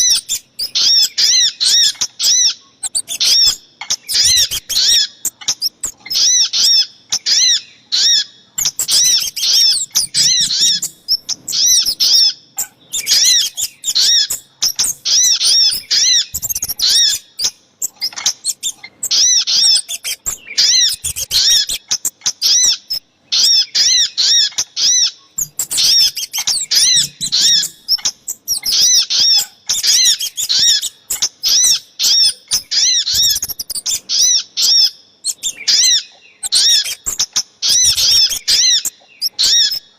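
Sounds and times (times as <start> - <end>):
small birds chipping: 0.0 - 39.9.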